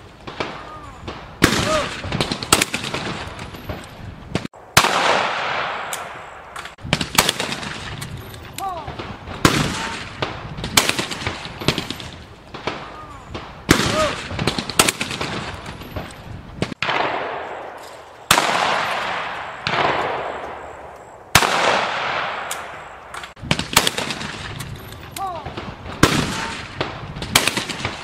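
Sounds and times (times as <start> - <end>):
shotgun shots echoing: 0.3 - 28.0.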